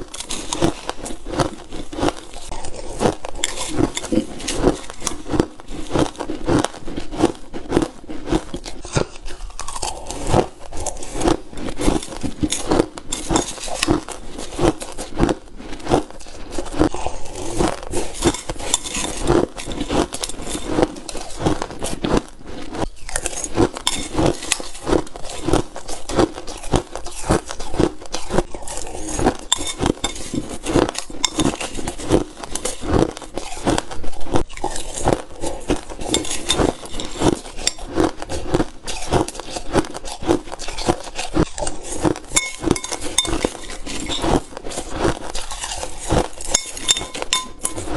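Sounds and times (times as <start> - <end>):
person crunching ice: 0.0 - 47.9.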